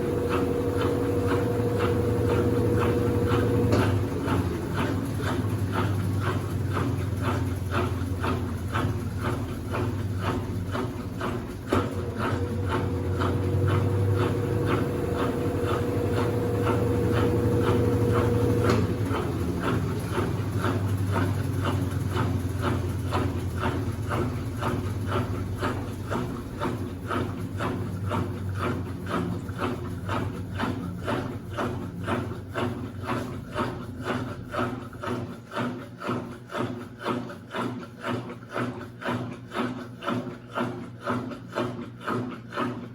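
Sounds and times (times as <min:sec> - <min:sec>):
washing machine churning: 0:00.0 - 0:42.9.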